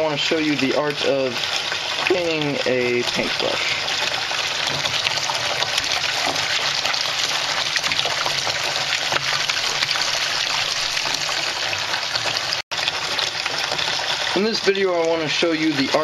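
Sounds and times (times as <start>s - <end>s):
tap water running into tray: 0.0s - 16.0s
water splashing: 0.0s - 16.0s.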